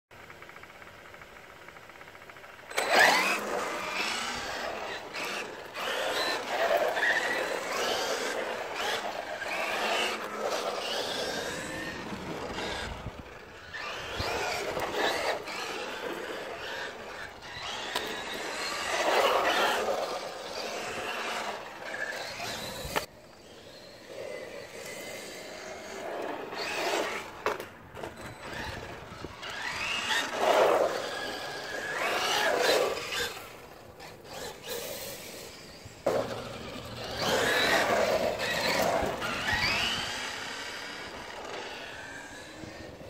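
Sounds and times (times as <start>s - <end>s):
electric motor whining: 2.6s - 43.0s.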